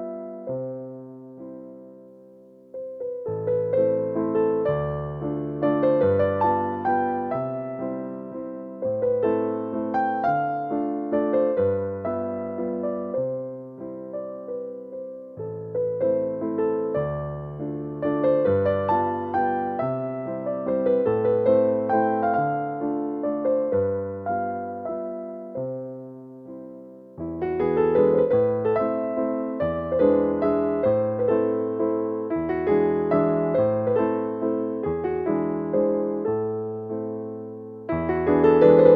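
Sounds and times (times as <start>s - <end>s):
gentle piano melody: 0.0s - 38.9s.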